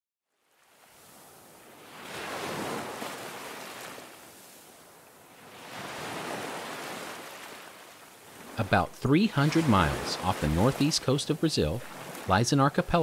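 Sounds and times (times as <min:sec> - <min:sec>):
ocean surf breaking over rocks: 0:01.2 - 0:13.0.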